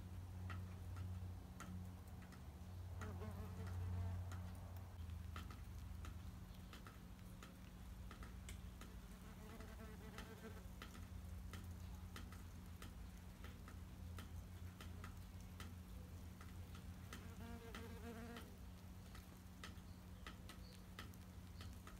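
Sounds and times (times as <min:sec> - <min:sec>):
wasps buzzing faintly: 0:00.1 - 0:21.9
faint clicks: 0:00.4 - 0:21.9.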